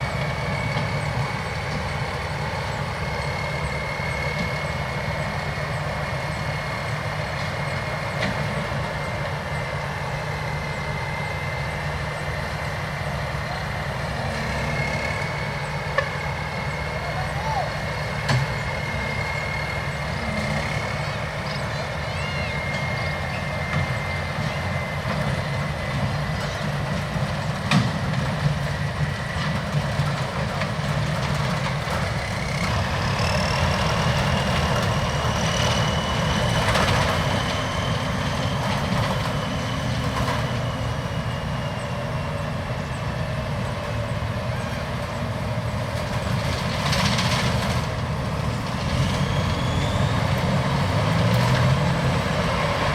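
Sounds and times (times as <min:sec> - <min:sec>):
diesel engine under load: 0:00.0 - 0:52.9
machinery whine: 0:00.0 - 0:52.9.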